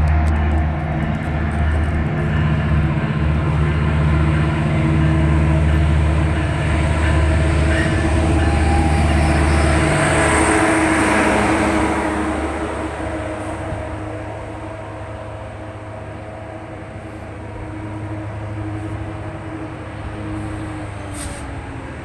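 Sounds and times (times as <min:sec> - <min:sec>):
diesel engine hum: 0:00.0 - 0:22.0
train wheels on rail: 0:00.0 - 0:22.0.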